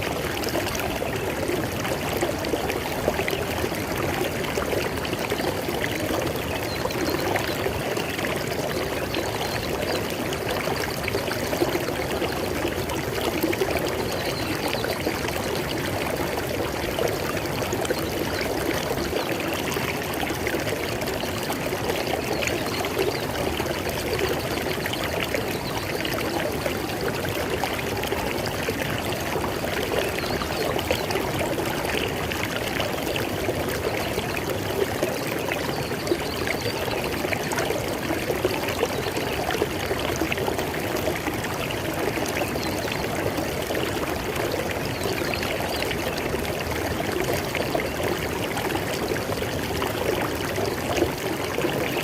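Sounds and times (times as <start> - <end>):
river water flowing over rocks: 0.0 - 52.0.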